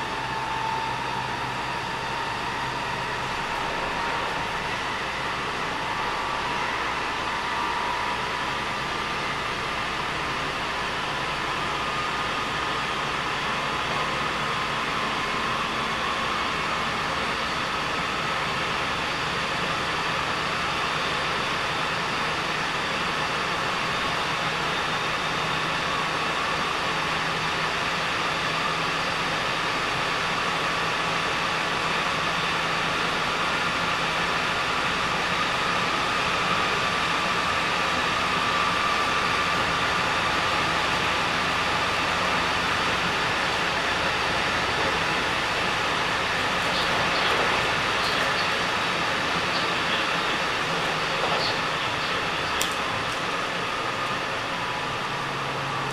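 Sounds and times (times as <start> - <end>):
faint steady whine: 0.0 - 55.9
train wheels on rails: 0.0 - 55.9.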